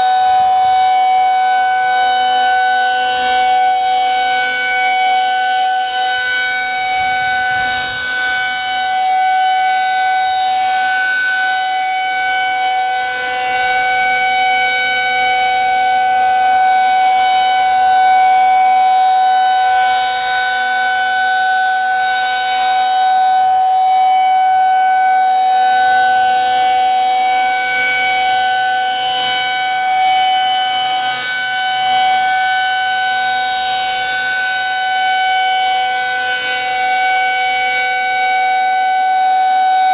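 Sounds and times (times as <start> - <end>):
rotating warning siren wailing: 0.0 - 39.9.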